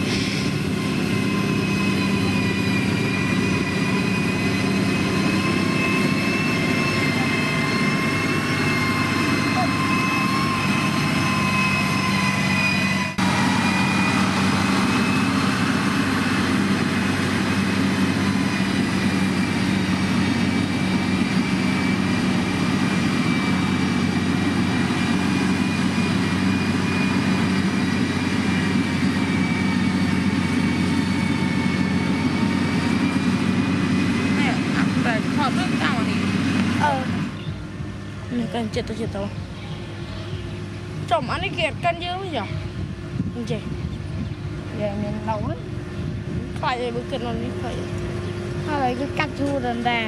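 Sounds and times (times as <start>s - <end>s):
diesel engine low hum: 0.0s - 50.0s.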